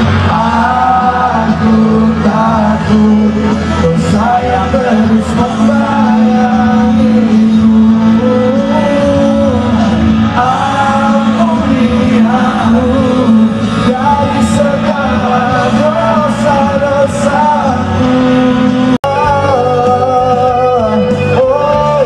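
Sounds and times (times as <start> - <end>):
live pop band: 0.0 - 22.0
man singing: 0.0 - 22.0.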